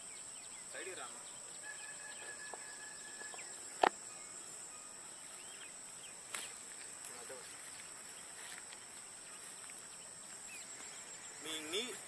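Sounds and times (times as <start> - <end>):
bird chirps: 0.0 - 12.0
high-pitched insect drone: 0.0 - 12.0.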